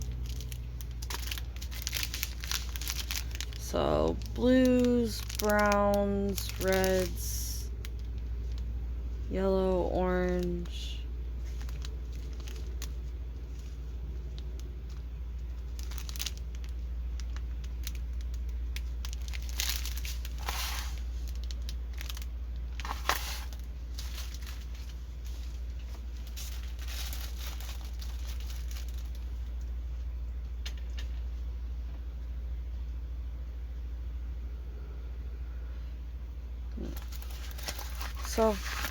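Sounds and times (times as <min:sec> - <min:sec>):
plastic packaging crinkling: 0:00.0 - 0:29.7, 0:36.8 - 0:38.9
low hum: 0:00.0 - 0:38.9.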